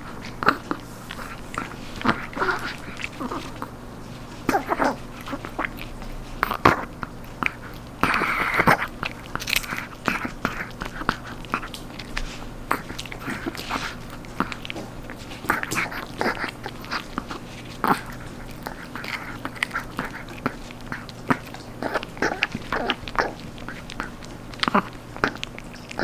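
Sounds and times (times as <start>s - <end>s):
dog crunching a bone treat: 0.0s - 26.0s.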